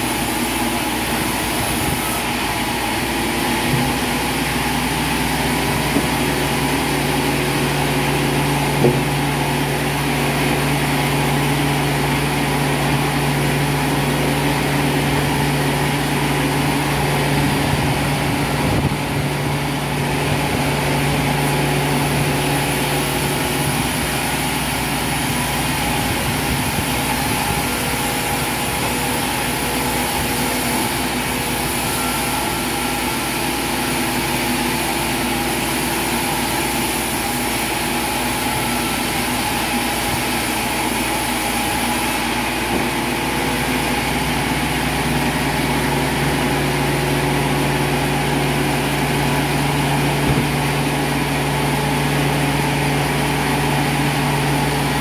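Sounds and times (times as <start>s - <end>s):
band sawmill ripping log: 0.0s - 55.0s.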